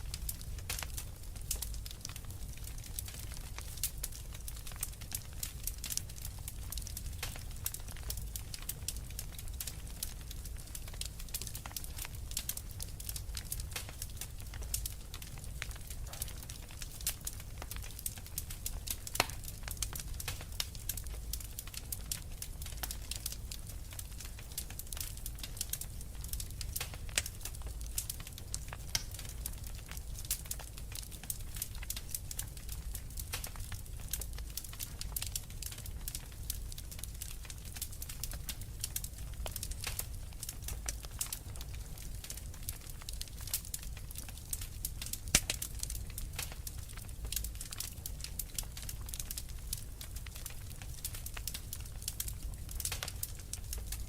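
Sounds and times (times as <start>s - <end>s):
wood fire crackling: 0.0s - 54.0s
loud fire pops: 0.1s - 54.0s.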